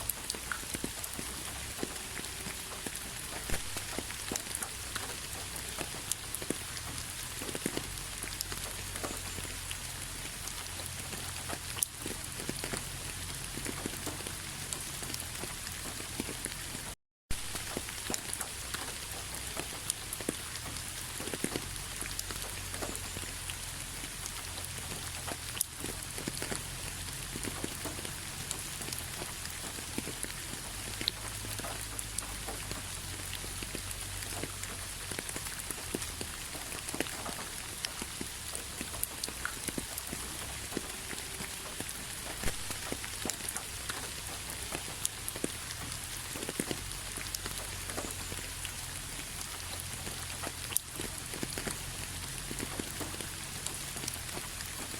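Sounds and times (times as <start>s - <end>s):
rain hissing: 0.0s - 54.9s
raindrops ticking: 0.0s - 54.9s.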